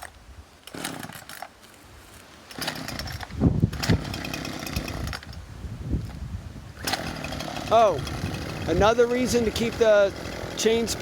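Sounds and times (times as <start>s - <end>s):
chainsaw cutting wood: 0.0s - 1.8s, 2.4s - 5.4s, 6.8s - 11.0s.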